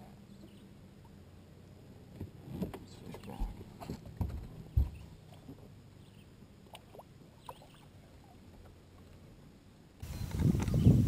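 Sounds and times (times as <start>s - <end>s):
quiet water sounds: 0.0s - 11.0s.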